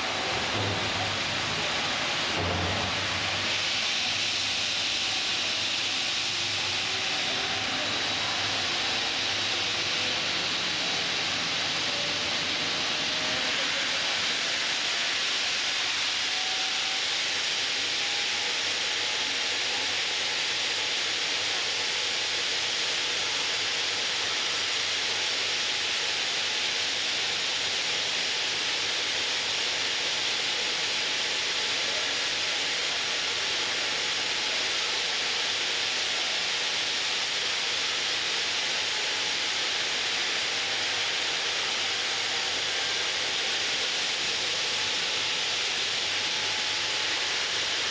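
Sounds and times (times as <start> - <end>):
stone cutting machine hissing: 0.0 - 47.9.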